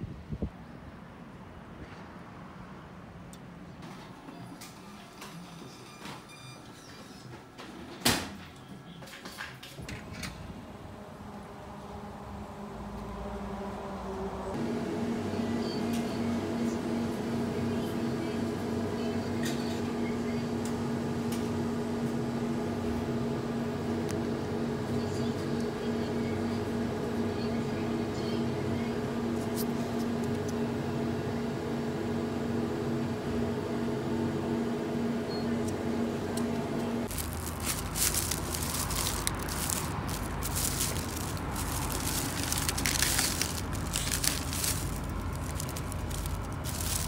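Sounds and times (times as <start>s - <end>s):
refrigerator fans and compressor hum: 4.3s - 47.0s.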